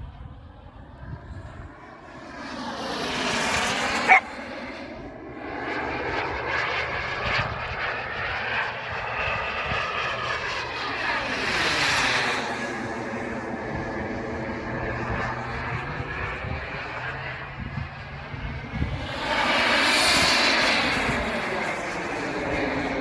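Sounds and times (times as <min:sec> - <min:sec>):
model jet turbine whine: 0:00.0 - 0:23.0.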